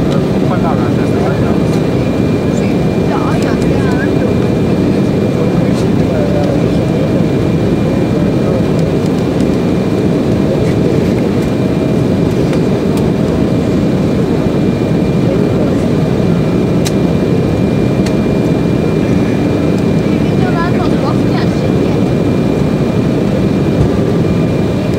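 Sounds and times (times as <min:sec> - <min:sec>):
airliner cabin airflow rush: 0:00.0 - 0:24.9.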